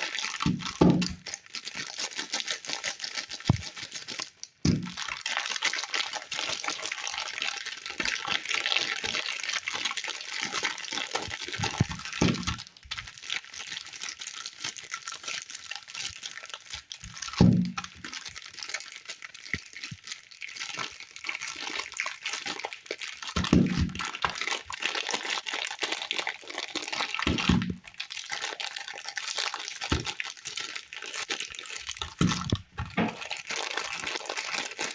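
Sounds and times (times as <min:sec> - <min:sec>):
wrapper crinkling: 0:00.0 - 0:34.9.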